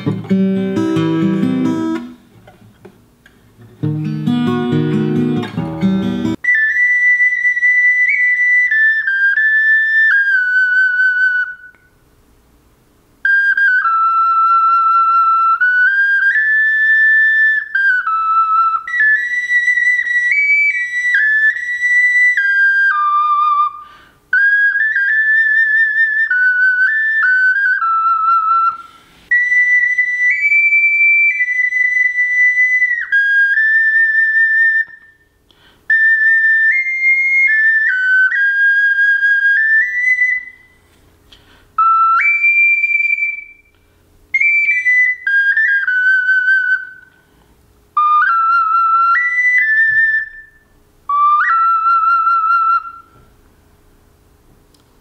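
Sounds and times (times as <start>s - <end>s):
ocarina melody: 0.0s - 12.0s, 13.2s - 53.4s.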